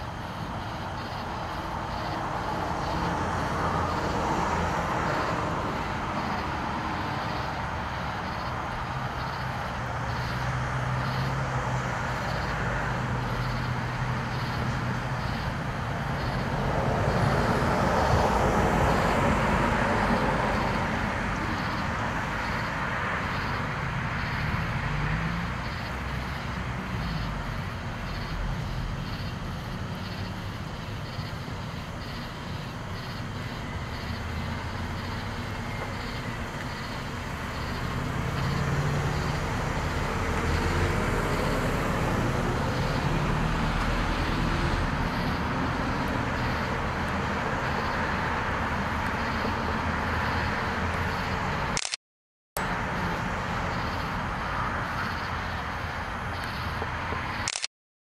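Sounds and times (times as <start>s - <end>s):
traffic rumble: 0.0s - 52.0s, 52.6s - 57.7s.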